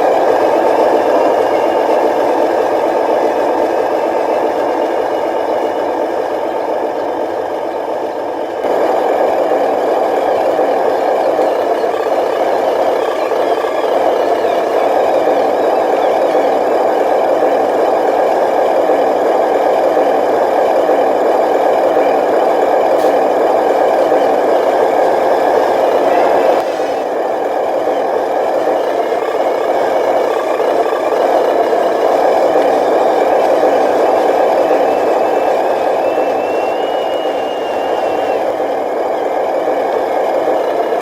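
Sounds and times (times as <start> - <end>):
toy truck motors whining and rattling: 0.0 - 41.0.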